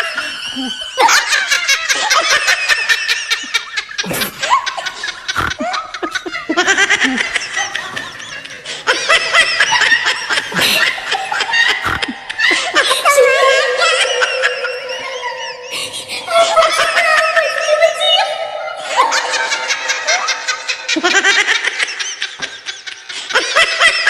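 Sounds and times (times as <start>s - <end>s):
high-pitched laughter: 0.0s - 24.0s.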